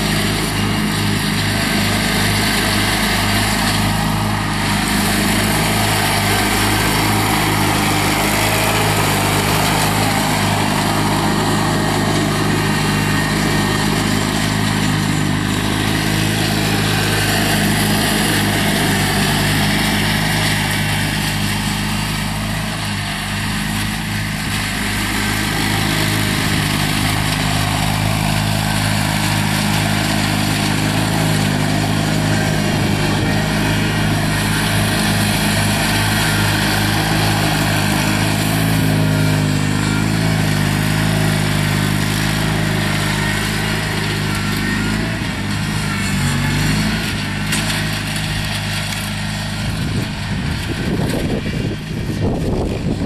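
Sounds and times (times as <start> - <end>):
garden tractor engine running: 0.0 - 53.0.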